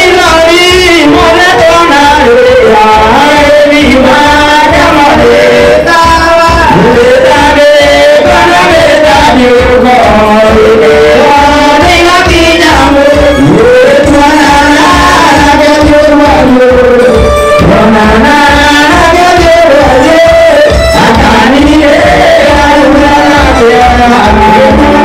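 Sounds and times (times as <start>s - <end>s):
electronic keyboard with steady beat: 0.0s - 25.0s
youth choir singing through a pa: 0.0s - 25.0s.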